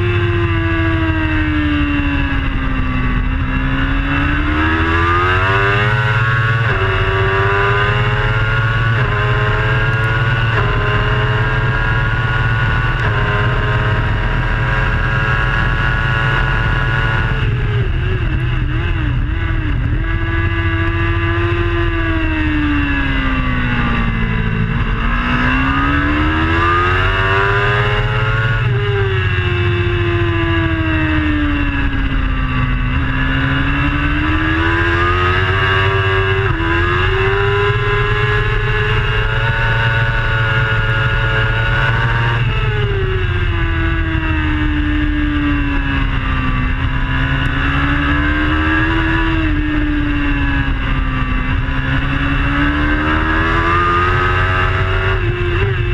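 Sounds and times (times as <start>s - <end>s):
motorcycle engine revving: 0.0s - 55.9s
wind rush on microphone: 0.0s - 55.9s.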